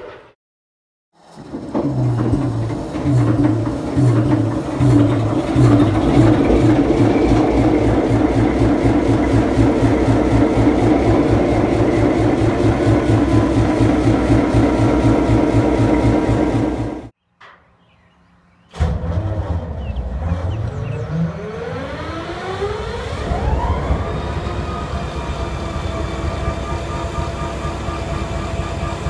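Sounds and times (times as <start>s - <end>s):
diesel locomotive engine running: 1.2s - 17.2s, 18.8s - 29.0s.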